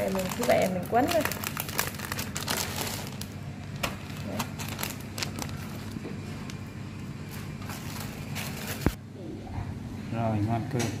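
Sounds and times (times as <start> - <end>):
plastic and paper crinkling: 0.0 - 9.0
steady low hum: 0.0 - 11.0.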